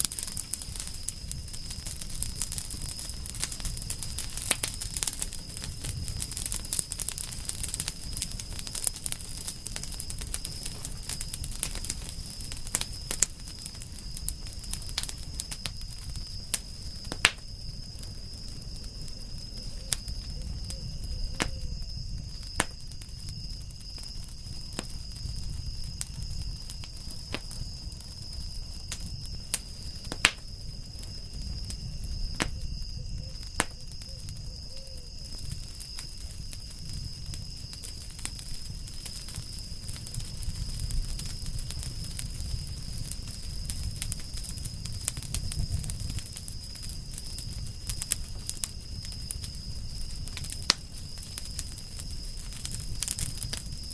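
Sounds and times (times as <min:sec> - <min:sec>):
campfire crackling and popping: 0:00.0 - 0:53.9
low rumble of flames: 0:00.0 - 0:53.9.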